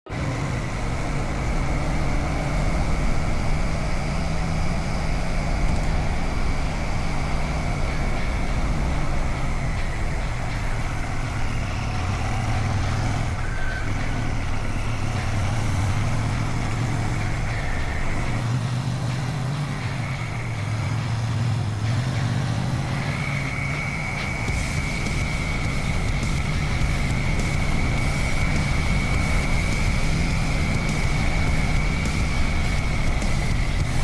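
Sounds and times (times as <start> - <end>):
motorcycle engine running: 0.1 - 34.0.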